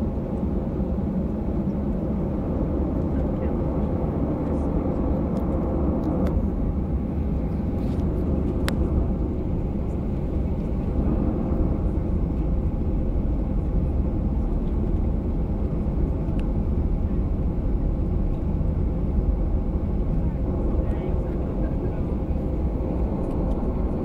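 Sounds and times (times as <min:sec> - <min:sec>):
jet engine cabin rumble: 0:00.0 - 0:24.0.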